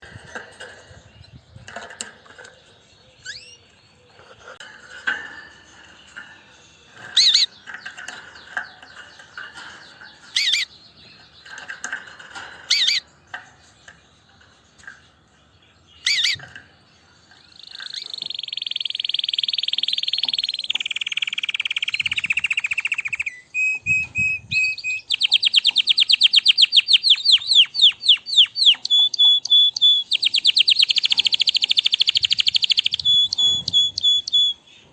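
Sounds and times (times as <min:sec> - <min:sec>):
canary chirping and trilling: 0:00.0 - 0:34.9.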